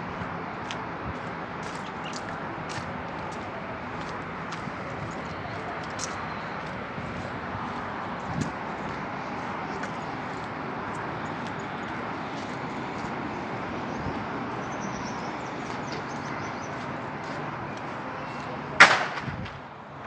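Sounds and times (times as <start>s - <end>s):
outdoor street noise: 0.0s - 20.0s.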